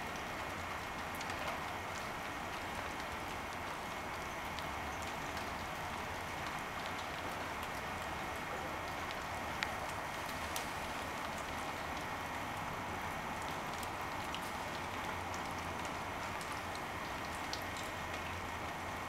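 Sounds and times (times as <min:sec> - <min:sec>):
wet snow falling: 0:00.0 - 0:19.0.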